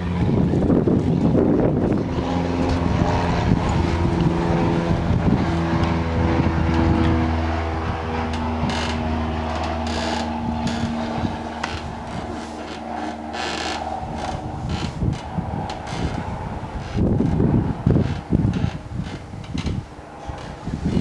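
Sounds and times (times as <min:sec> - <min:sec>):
engine humming: 0:00.0 - 0:21.0
wind on microphone: 0:00.0 - 0:21.0.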